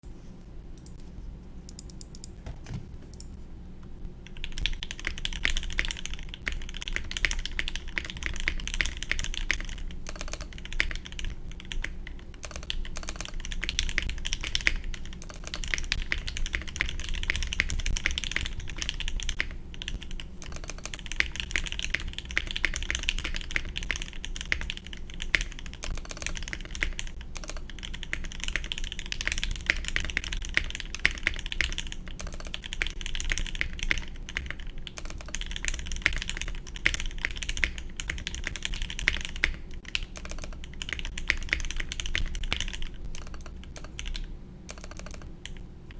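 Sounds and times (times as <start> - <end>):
mechanical keyboard typing: 4.2 - 45.6.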